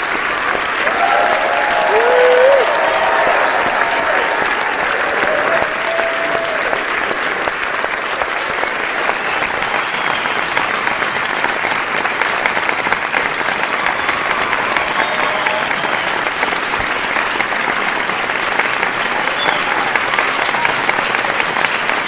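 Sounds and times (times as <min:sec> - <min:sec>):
many hands clapping: 0:00.0 - 0:22.0.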